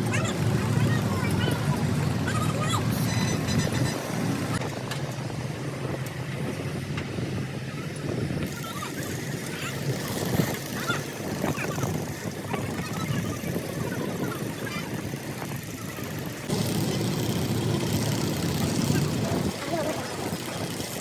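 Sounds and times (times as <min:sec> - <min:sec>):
large engine rumbling: 0:00.0 - 0:21.0.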